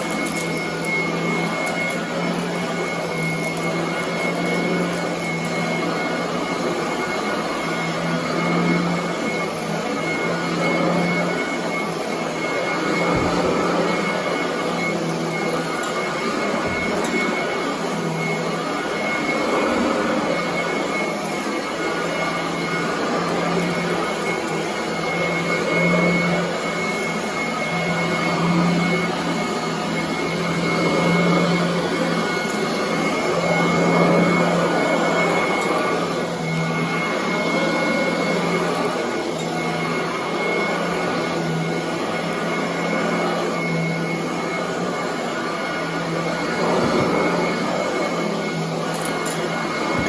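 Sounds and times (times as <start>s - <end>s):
vacuum cleaner on carpet: 0.0s - 50.0s.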